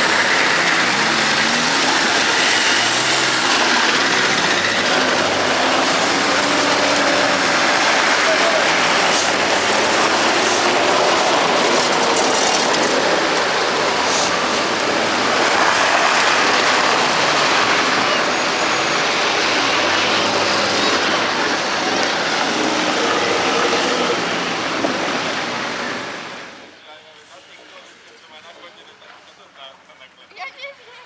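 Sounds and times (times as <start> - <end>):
vehicle driving off-road rushing: 0.0 - 26.8.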